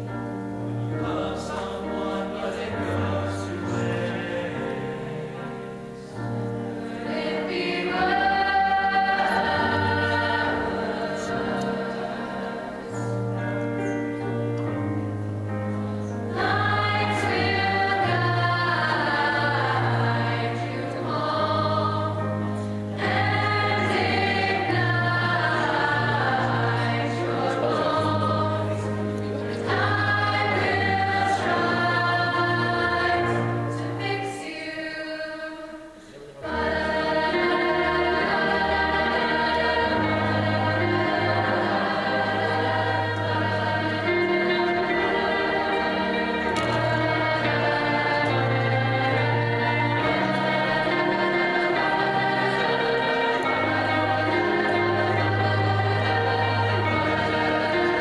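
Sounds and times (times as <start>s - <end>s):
mixed choir singing: 0.0s - 58.0s.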